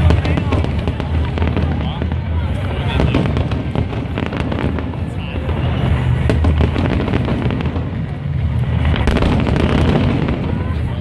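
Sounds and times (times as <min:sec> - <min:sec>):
fireworks crackling and popping: 0:00.0 - 0:11.0
heavy low rumble: 0:00.0 - 0:11.0.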